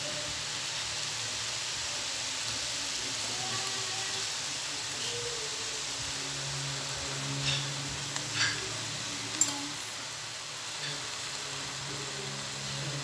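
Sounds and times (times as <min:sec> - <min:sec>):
food sizzling in a hot pan: 0:00.0 - 0:13.0.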